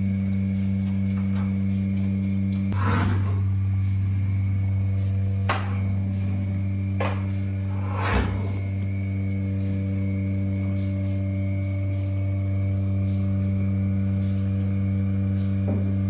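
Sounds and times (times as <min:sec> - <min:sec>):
milking machine humming: 0:00.0 - 0:16.0.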